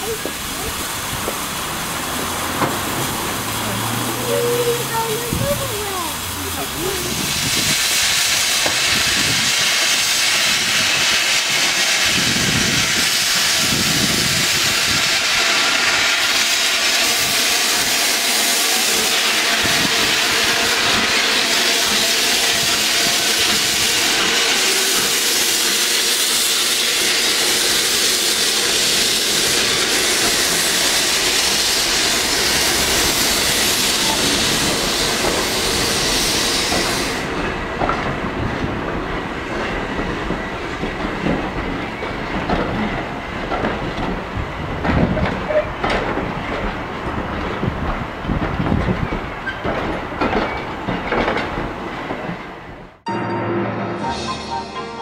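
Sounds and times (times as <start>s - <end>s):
steam locomotive hissing: 0.0s - 52.6s
train coaches rolling: 0.0s - 55.0s.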